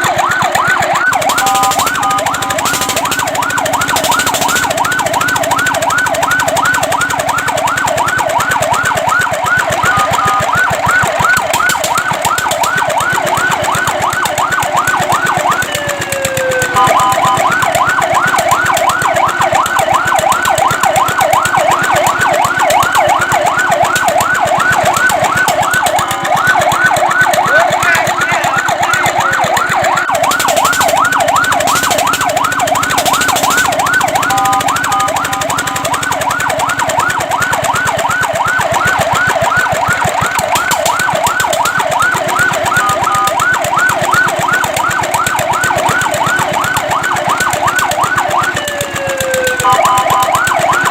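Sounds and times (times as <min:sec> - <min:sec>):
fire truck siren yelping: 0:00.0 - 0:50.9.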